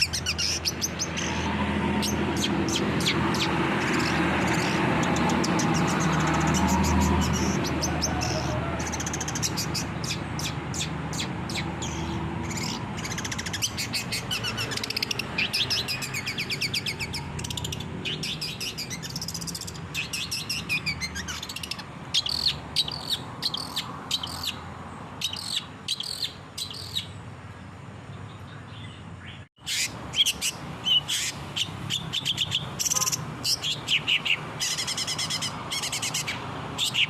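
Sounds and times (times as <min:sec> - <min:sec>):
bird chirps and trills: 0:00.0 - 0:37.0.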